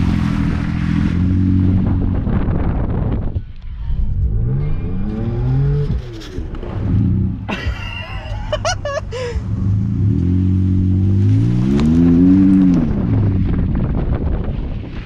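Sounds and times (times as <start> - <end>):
car engine revving: 0.0 - 8.6, 9.2 - 14.6.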